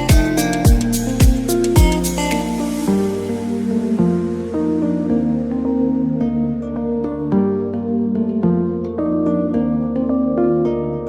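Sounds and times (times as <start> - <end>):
background music with steady beat: 0.0 - 9.0.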